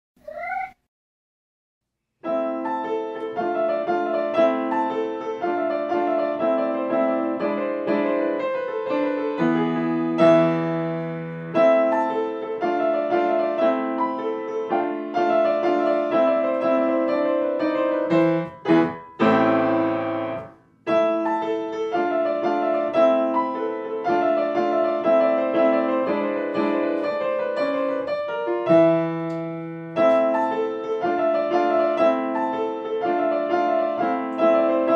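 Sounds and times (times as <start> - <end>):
piano music: 2.2 - 34.9.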